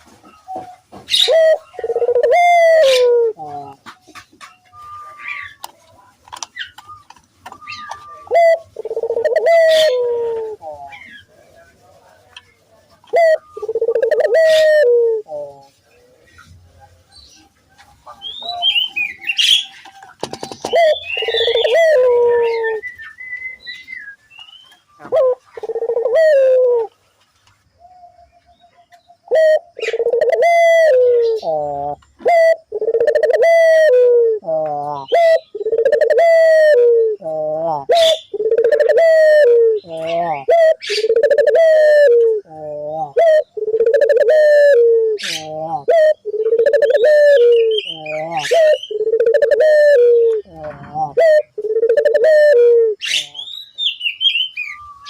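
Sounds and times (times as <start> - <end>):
doves cooing: 0.0 - 11.5, 13.0 - 16.7, 17.3 - 24.2, 24.8 - 27.0, 29.2 - 53.6
small birds chirping and whistling: 0.0 - 27.0, 27.7 - 55.0.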